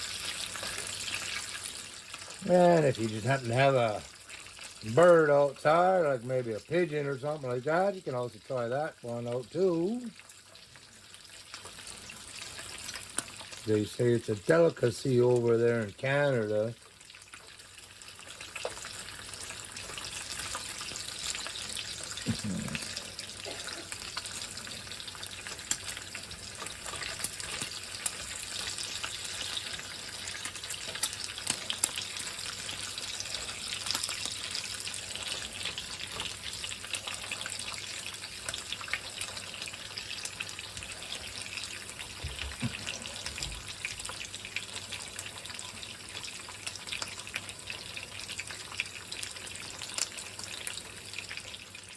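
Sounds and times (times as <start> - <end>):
soup simmering in a pot: 0.0 - 51.9.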